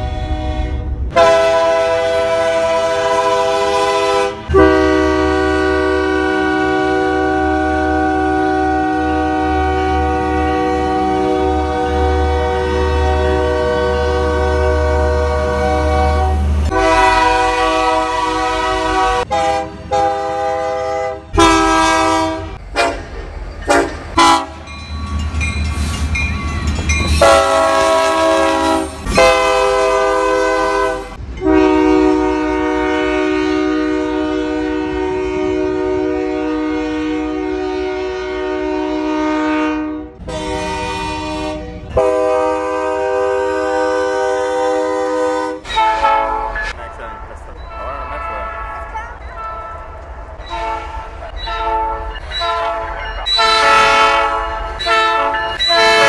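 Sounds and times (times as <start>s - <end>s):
train horn blasts: 0.0s - 24.7s, 27.0s - 56.0s.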